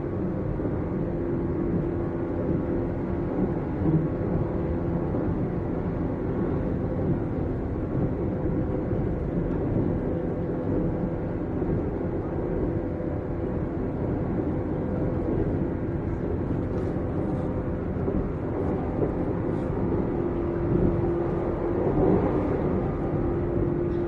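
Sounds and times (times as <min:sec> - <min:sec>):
constant hum: 0:00.0 - 0:24.0
train wheels rumbling on rail: 0:00.0 - 0:24.0.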